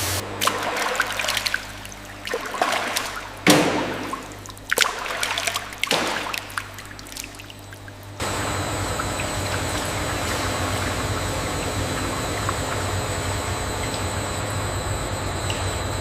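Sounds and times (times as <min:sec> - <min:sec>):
liquid trickling and splashing: 0:00.4 - 0:14.5.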